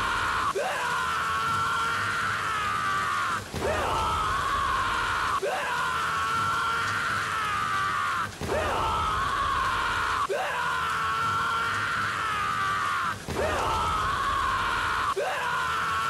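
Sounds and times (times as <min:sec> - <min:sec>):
man screaming: 0:00.0 - 0:16.0.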